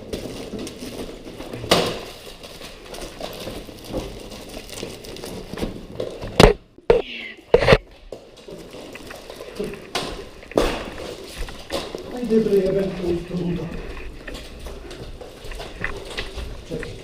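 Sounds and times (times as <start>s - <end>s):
rustling and handling noise: 0.0s - 17.0s.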